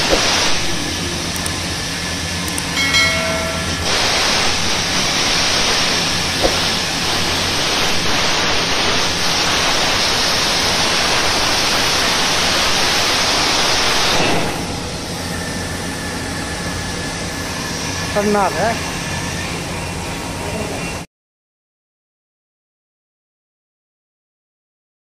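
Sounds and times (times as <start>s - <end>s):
plasma cutter hissing: 0.0s - 21.0s
steady hum: 0.0s - 21.1s.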